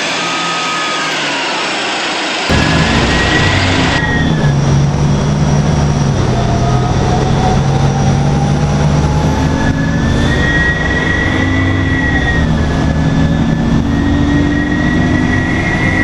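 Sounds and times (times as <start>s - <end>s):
bus diesel engine drone: 0.0s - 16.0s
turbocharger whistle: 0.0s - 16.0s.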